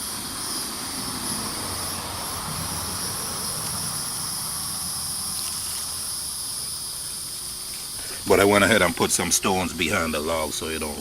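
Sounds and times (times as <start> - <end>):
high-pitched insect chorus: 0.0 - 11.0
low rumbling noise: 0.0 - 11.0.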